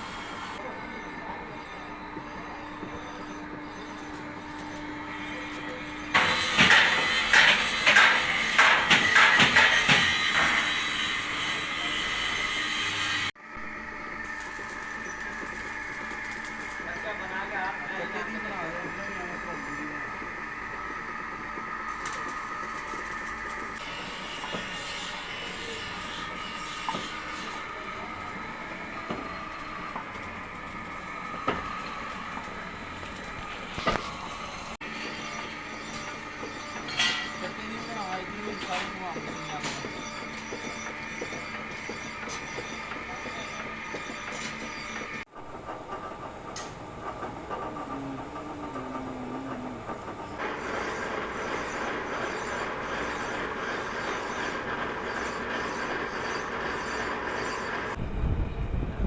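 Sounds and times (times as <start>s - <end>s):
metal lathe whining: 0.0s - 58.0s.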